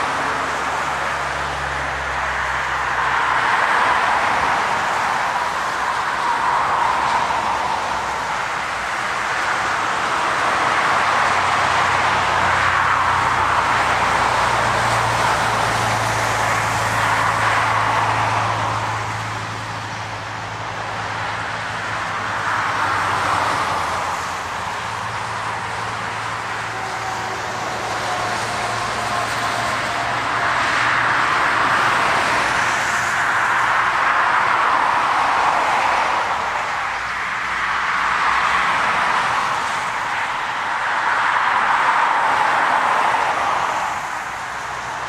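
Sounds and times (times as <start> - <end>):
vehicles passing on highway: 0.0 - 45.0.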